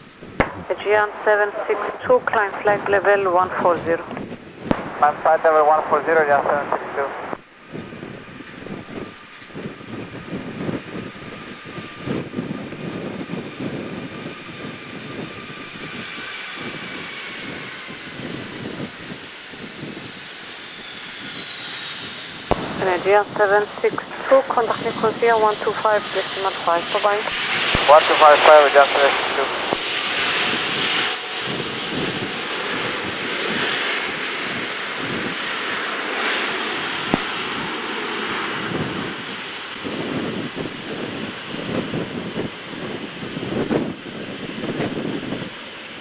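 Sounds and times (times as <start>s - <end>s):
jet engine roar and whine: 0.0s - 46.0s.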